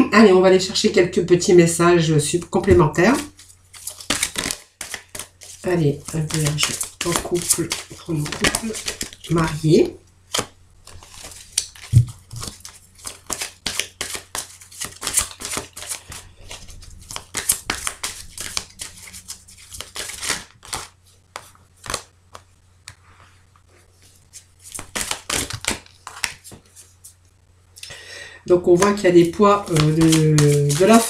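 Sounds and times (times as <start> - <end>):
cards being shuffled: 2.4 - 27.2, 28.6 - 31.0.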